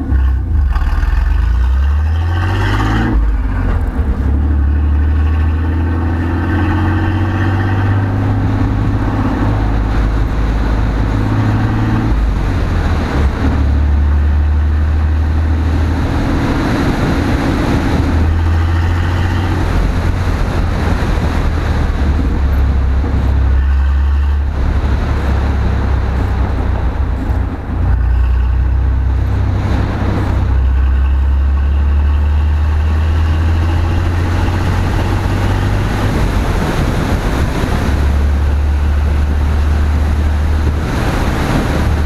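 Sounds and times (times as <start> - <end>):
road noise: 0.0 - 42.0
vehicle engine rumbling: 0.0 - 42.0.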